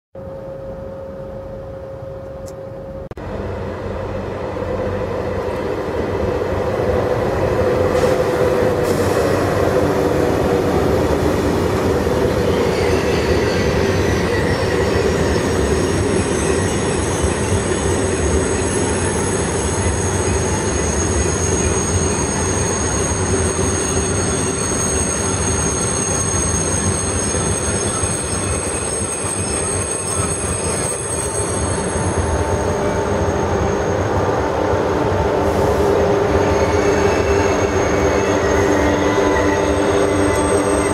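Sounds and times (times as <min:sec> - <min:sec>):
train wheels rumbling on rail: 0:01.3 - 0:40.9
high-pitched squeal: 0:07.8 - 0:40.9.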